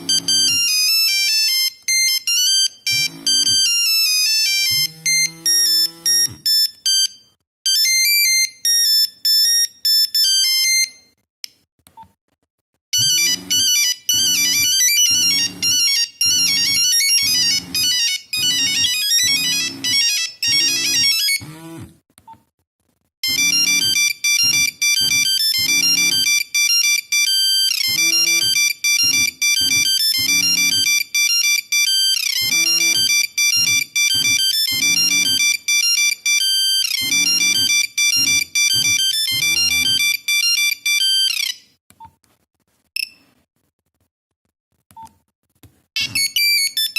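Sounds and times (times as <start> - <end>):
mobile phone ringtones beeping: 0.0 - 11.2, 13.0 - 21.6, 23.2 - 41.8, 46.0 - 46.9.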